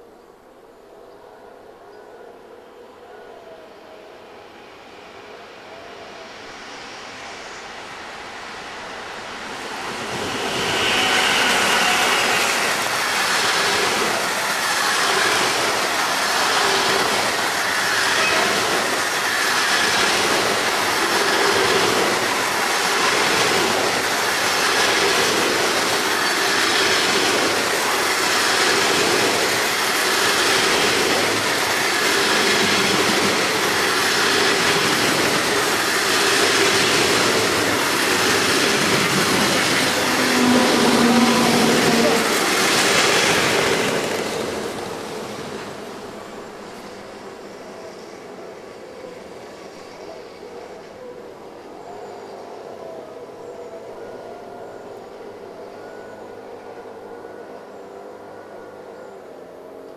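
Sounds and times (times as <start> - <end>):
passenger train passing: 0.0 - 59.9
freight train passing: 2.3 - 59.9.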